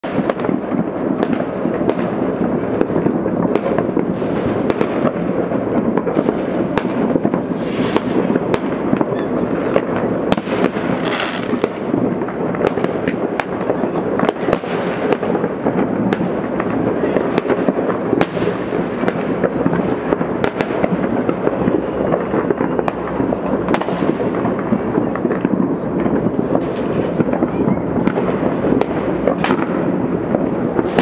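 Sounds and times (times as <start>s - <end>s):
hissing crackle: 0.0s - 31.0s
rumble of distant explosions: 0.0s - 31.0s
sharp firecracker bangs: 0.0s - 31.0s.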